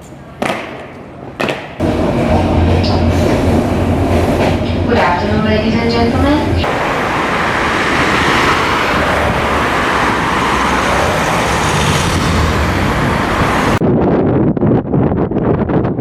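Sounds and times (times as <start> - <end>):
traffic rumble and hiss: 0.0 - 13.8
wind buffeting microphone: 1.8 - 16.0.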